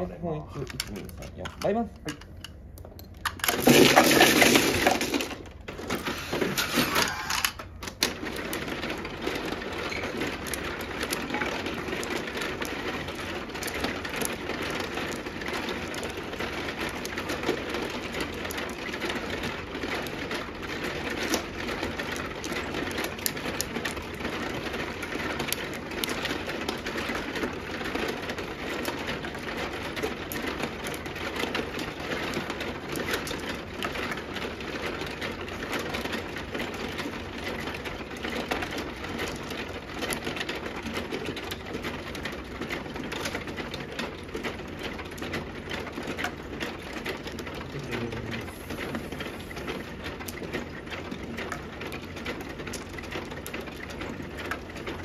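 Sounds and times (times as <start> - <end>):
mahjong tiles clattering: 0.3 - 55.0
table mechanism shuffling tiles: 0.6 - 55.0.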